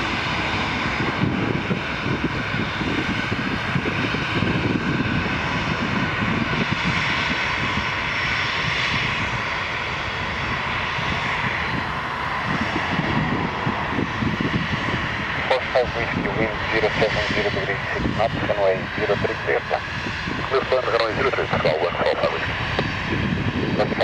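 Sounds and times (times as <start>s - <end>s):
jet engines roaring and whining: 0.0s - 24.0s.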